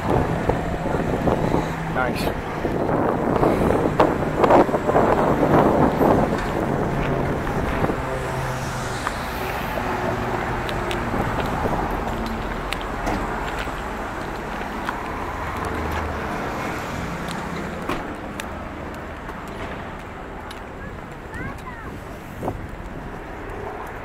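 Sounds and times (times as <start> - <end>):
cars passing: 0.0 - 24.0.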